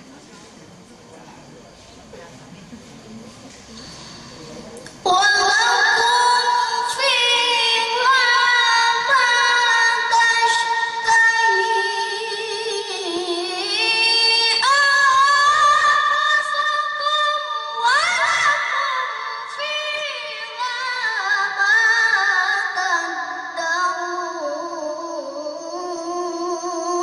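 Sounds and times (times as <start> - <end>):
boy reciting melodically: 4.7 - 27.0.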